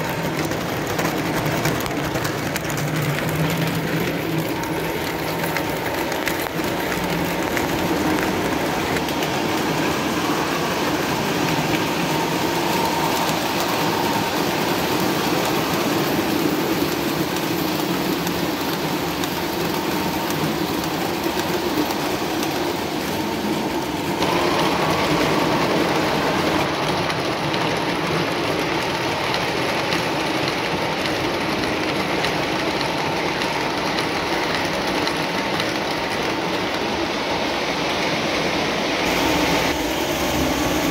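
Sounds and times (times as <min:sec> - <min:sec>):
model train motors whirring: 0:00.0 - 0:40.9.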